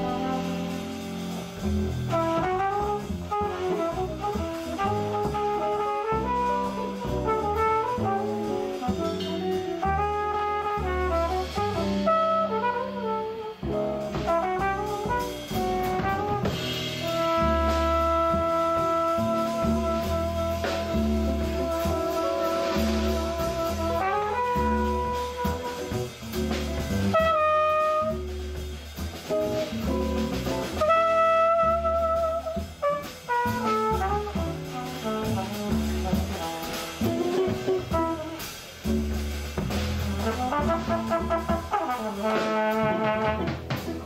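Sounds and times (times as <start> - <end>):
brass horn melody: 0.0 - 44.0
live jazz band playing: 0.0 - 44.0.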